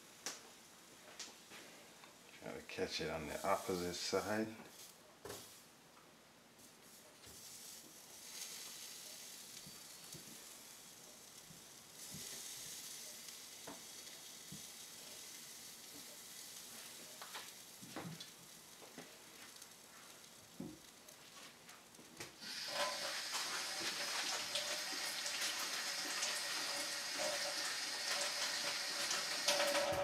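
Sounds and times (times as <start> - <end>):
fish sizzling on grill: 2.9 - 5.6, 6.8 - 30.0.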